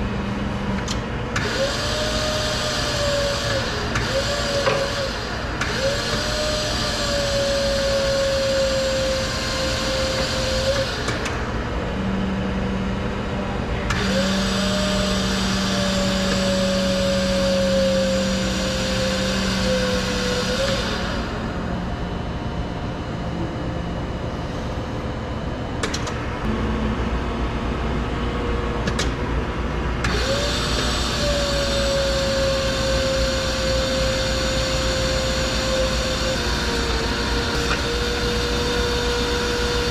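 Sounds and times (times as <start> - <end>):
hydraulic pump whining: 0.0 - 39.9.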